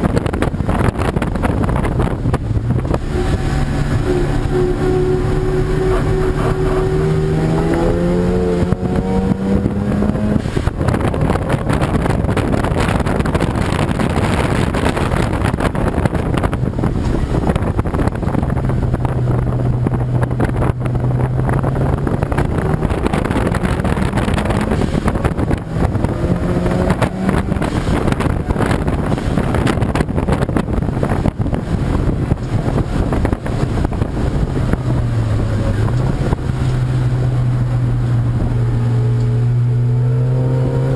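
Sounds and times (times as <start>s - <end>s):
wind noise on microphone: 0.0s - 40.9s
racing car engine accelerating: 0.2s - 40.9s.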